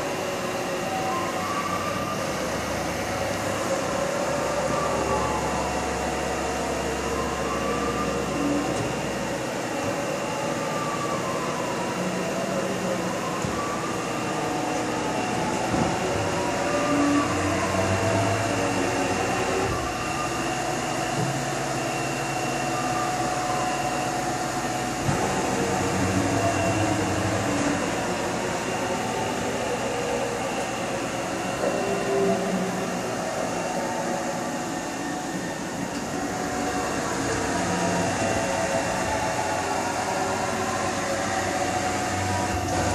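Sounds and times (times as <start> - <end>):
steady machine hum: 0.0 - 42.9.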